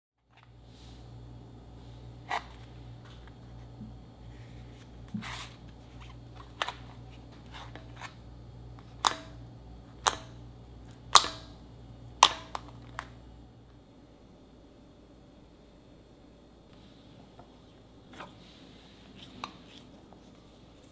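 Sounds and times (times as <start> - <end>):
steady low hum: 0.2 - 20.9.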